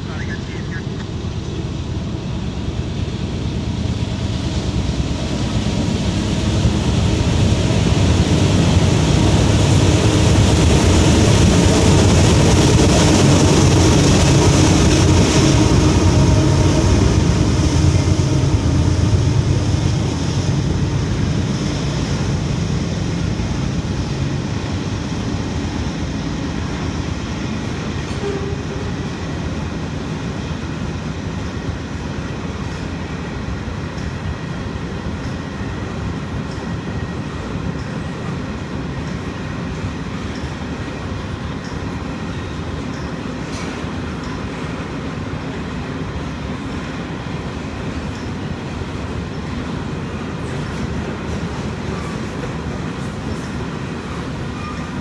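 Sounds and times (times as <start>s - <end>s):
diesel locomotives passing: 0.0s - 55.0s
freight train wheels clattering: 4.7s - 55.0s.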